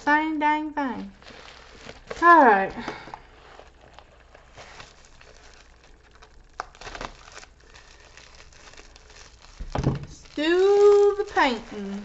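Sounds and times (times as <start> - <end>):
plastic mailer crinkling: 0.8 - 12.0.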